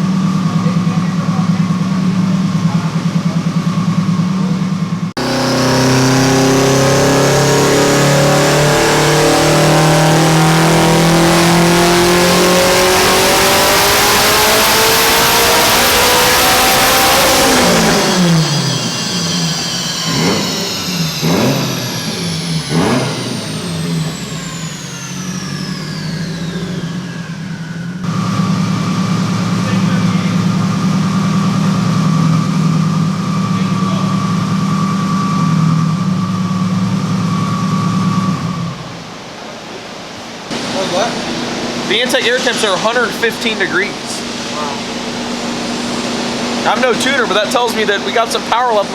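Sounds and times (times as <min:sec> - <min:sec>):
turbo whine: 0:00.0 - 0:39.3, 0:40.5 - 0:48.9
car engine revving: 0:00.0 - 0:48.9.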